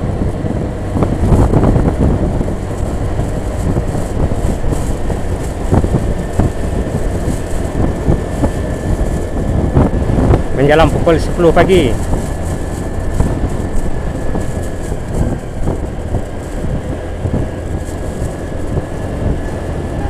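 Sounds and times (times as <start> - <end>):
motorcycle engine and tyre rumble: 0.0 - 20.0
wind on microphone: 0.0 - 20.0.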